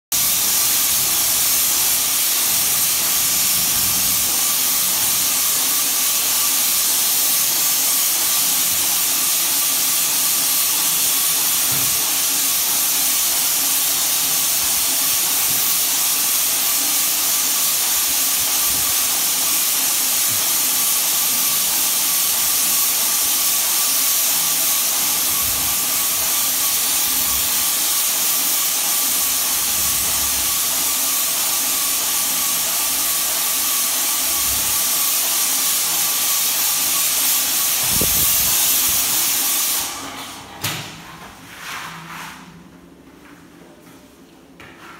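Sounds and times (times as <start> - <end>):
spray gun hissing: 0.2 - 40.2.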